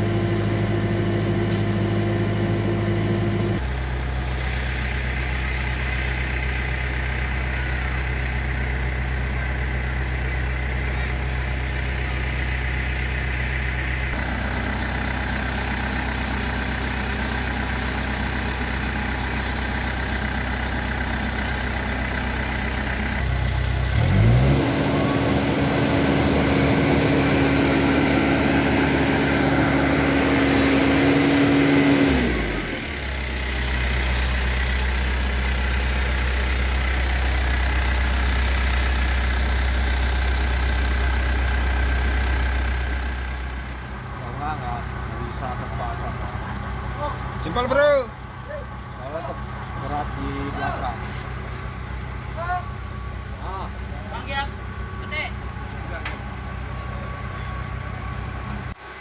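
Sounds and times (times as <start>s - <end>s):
backhoe diesel engine revving: 0.0s - 59.0s.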